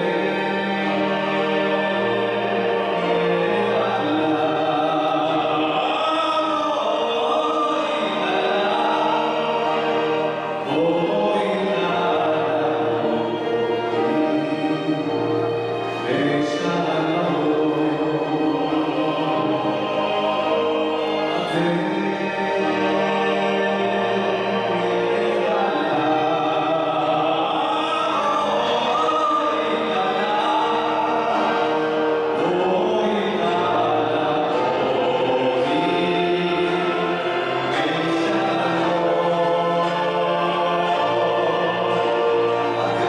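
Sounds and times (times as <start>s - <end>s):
clarinet: 0.0s - 43.0s
keyboard: 0.0s - 43.0s
male choir singing: 0.0s - 43.0s
violin: 0.0s - 43.0s.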